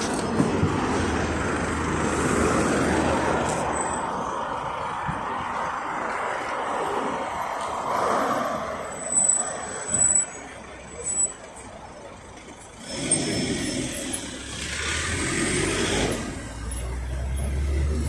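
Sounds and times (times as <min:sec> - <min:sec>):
minibus diesel engine: 0:00.0 - 0:18.0.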